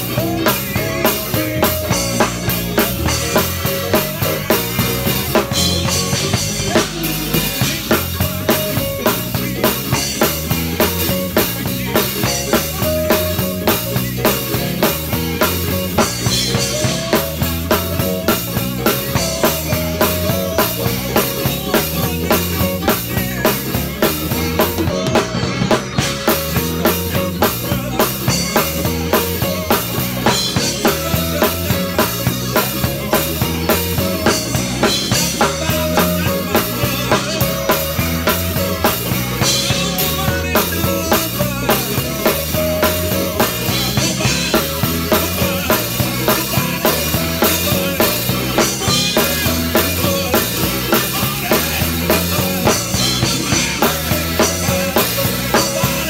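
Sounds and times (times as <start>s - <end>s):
bass guitar: 0.0s - 56.0s
drum kit beat: 0.0s - 56.0s.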